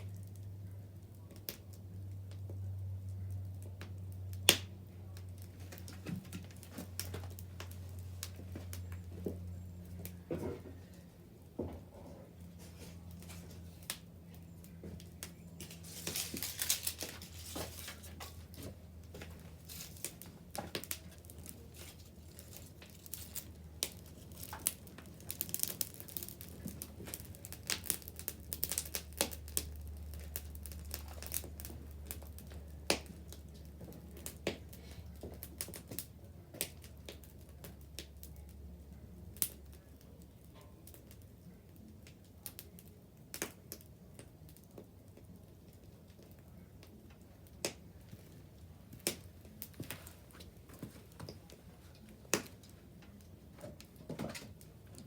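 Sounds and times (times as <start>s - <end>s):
bonfire crackling and popping: 0.0s - 55.0s
low steady hum: 0.0s - 55.0s.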